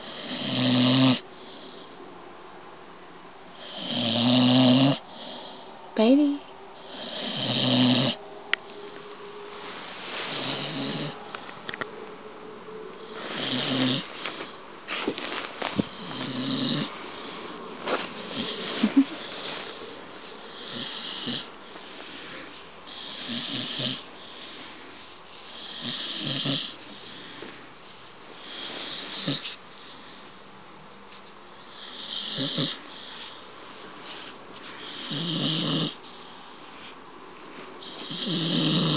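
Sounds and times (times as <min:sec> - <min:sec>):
dog snoring breaths: 0:00.0 - 0:02.0, 0:03.5 - 0:05.8, 0:06.8 - 0:09.1, 0:10.2 - 0:11.7, 0:13.0 - 0:27.7, 0:28.3 - 0:30.6, 0:31.6 - 0:37.0, 0:37.8 - 0:38.9.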